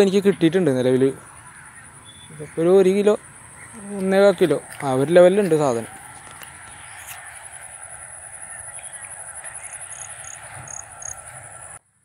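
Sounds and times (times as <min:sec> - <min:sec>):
insect trill: 0:00.0 - 0:12.0.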